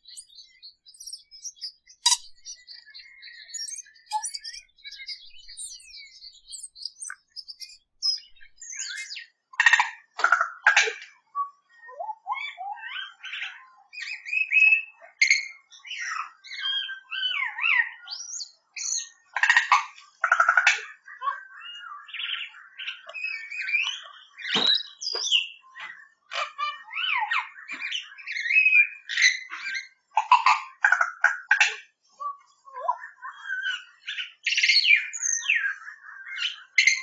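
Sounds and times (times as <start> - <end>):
bird singing varied song: 0.0 - 30.8, 31.9 - 37.0.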